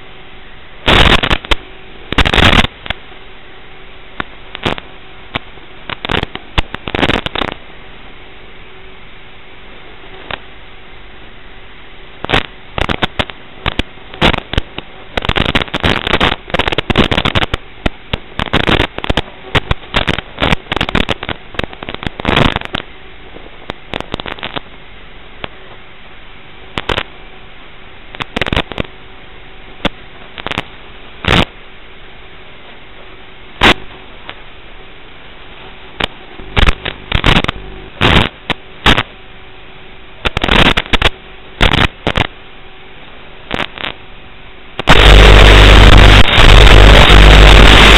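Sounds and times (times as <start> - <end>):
faint steady hum: 0.0 - 47.9
interference crackles and bursts: 0.0 - 47.9
static hiss: 0.0 - 47.9.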